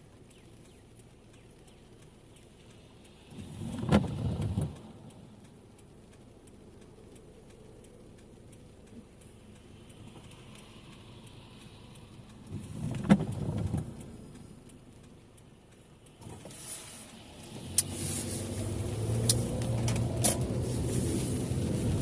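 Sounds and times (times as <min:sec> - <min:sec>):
car road noise on wet road: 0:00.0 - 0:22.0
faint regular ticking: 0:00.0 - 0:22.0.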